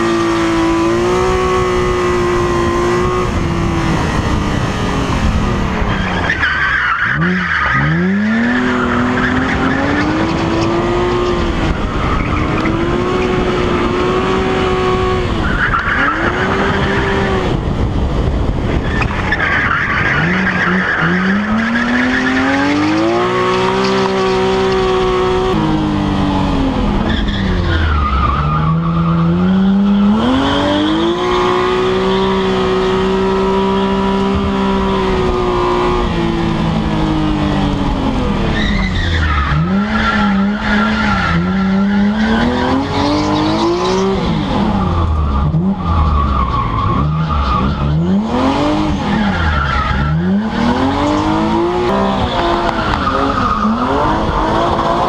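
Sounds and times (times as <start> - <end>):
car engine revving hard: 0.0 - 6.0, 6.6 - 18.6, 20.0 - 55.0.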